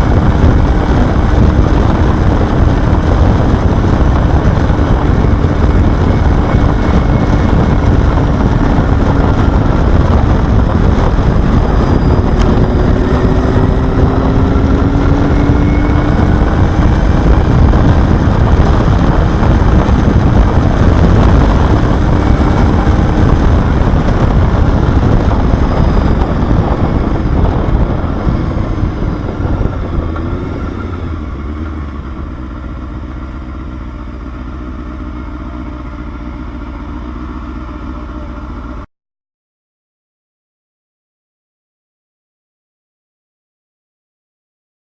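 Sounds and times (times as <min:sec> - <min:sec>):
motorcycle engine running: 0:00.0 - 0:38.9
wind and road rush: 0:00.0 - 0:38.9.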